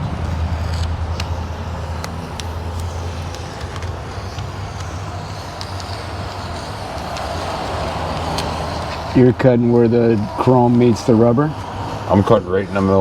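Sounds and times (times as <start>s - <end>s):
low vehicle hum: 0.0s - 13.0s.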